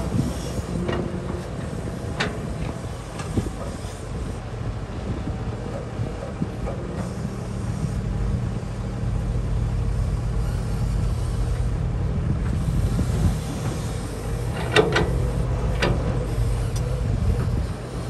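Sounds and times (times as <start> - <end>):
excavator diesel engine working: 0.0 - 18.0.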